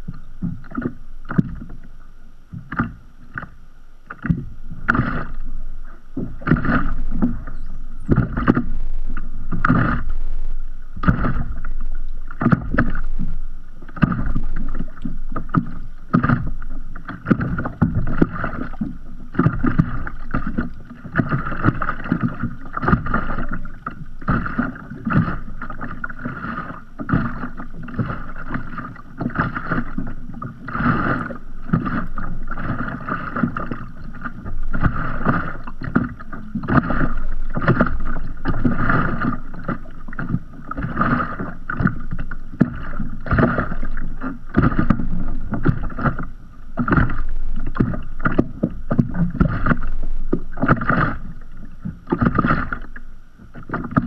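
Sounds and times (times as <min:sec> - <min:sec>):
water lapping against kayak hull: 0:00.0 - 0:54.0.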